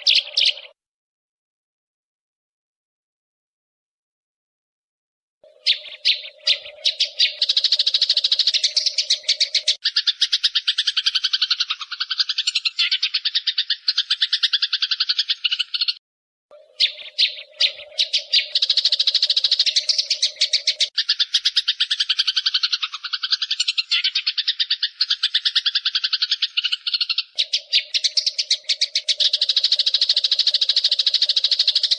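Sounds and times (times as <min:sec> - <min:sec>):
songbird chattering trills: 0:00.0 - 0:00.8, 0:05.4 - 0:31.9.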